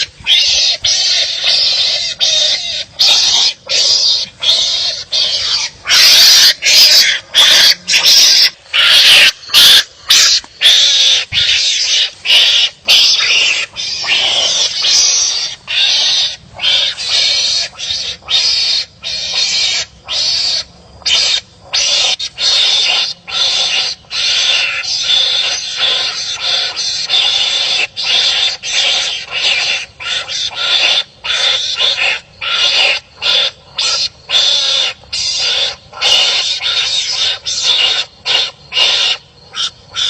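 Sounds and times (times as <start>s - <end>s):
wild animals barking harshly: 0.0s - 40.0s.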